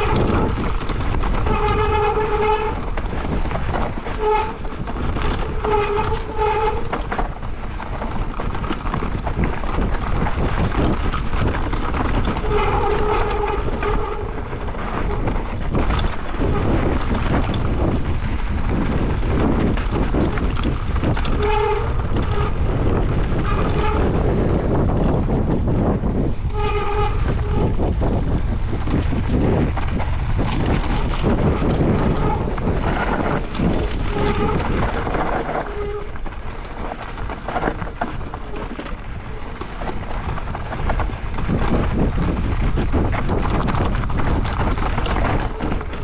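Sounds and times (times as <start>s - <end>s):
bike tyres rattling over rocks: 0.0s - 46.0s
wind on microphone: 0.0s - 46.0s.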